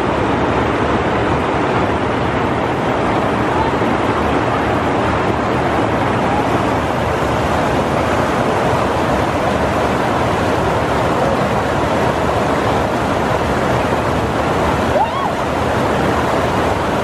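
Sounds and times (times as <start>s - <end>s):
river water rushing over weir: 0.0s - 17.0s.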